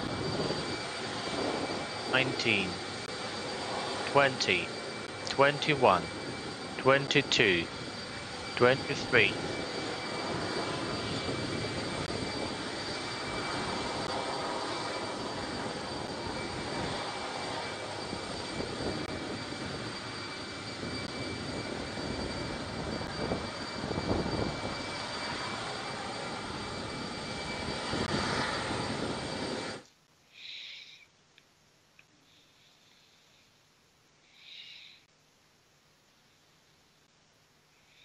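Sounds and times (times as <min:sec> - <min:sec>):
jet engines running with high whine: 0:00.0 - 0:31.2, 0:32.0 - 0:33.5, 0:34.1 - 0:35.1, 0:37.7 - 0:38.0.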